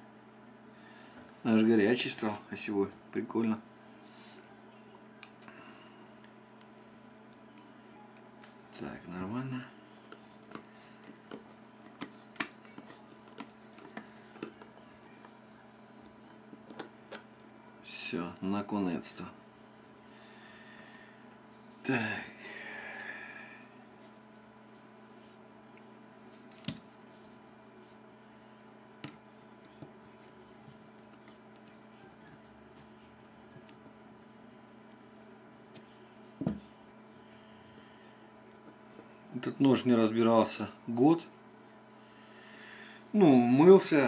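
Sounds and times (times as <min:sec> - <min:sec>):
faint hum: 0:00.0 - 0:44.0.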